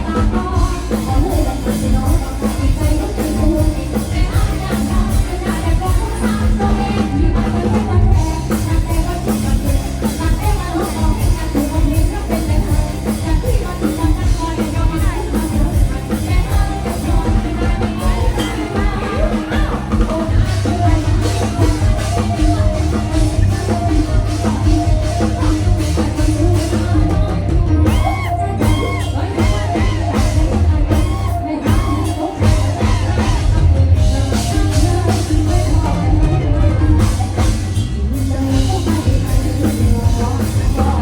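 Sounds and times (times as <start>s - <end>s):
drum kit beat: 0.0s - 41.0s
live band music: 0.0s - 41.0s
person singing: 0.0s - 41.0s.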